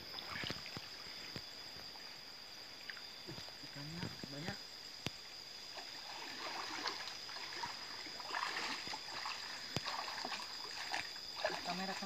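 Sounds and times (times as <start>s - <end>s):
stream water splashing: 0.0s - 3.5s, 5.4s - 12.0s.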